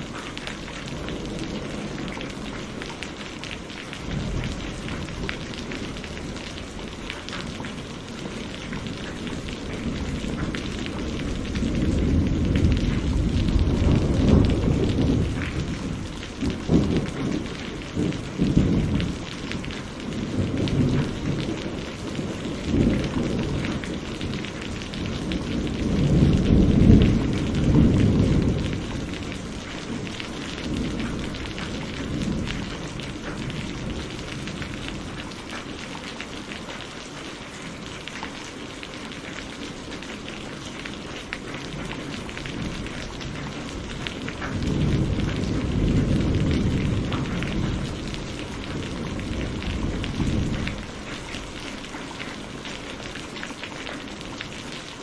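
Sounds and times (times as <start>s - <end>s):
rolling thunder: 0.0s - 35.6s, 41.3s - 51.6s
steady rain: 0.0s - 55.0s.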